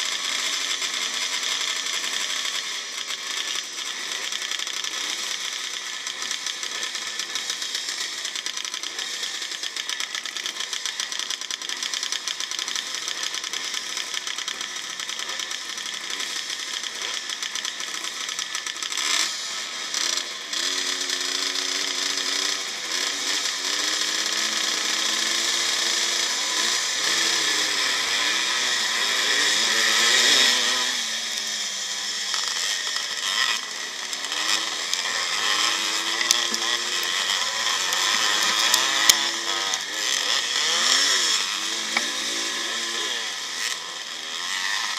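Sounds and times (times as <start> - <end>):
two-stroke motorcycle engines revving: 0.0 - 44.9.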